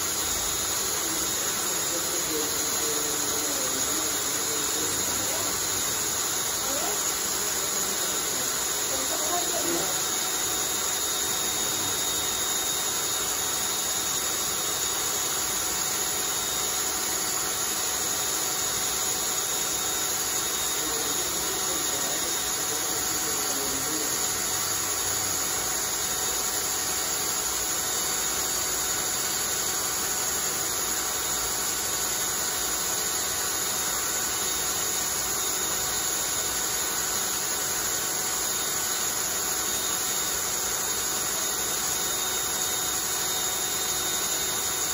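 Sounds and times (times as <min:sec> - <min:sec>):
cordless drill motor whirring: 0:00.0 - 0:44.9.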